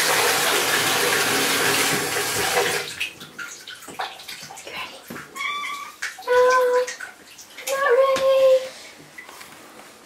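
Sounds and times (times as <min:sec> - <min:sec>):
tap water running into bathtub: 0:00.0 - 0:09.6.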